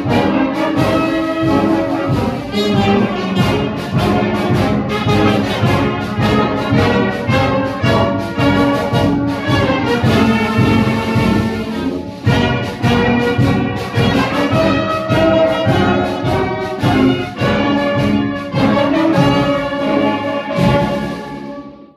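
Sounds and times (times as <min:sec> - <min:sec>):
brass band playing a march: 0:00.0 - 0:21.9.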